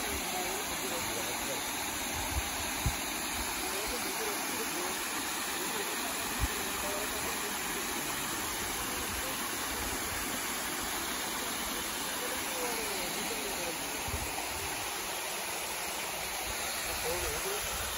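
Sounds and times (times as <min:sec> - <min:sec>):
waterfall rushing and splashing: 0:00.0 - 0:17.9.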